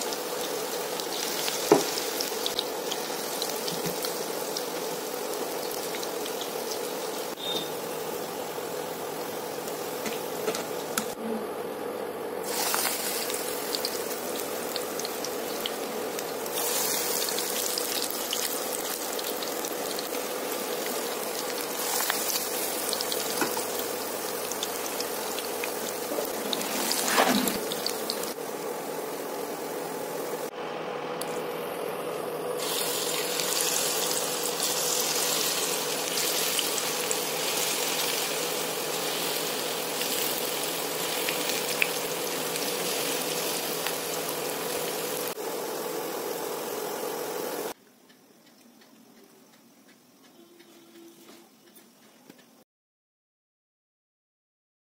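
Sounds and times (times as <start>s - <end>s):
food deep-frying in oil: 0.0s - 11.2s, 12.4s - 30.5s, 32.6s - 47.8s.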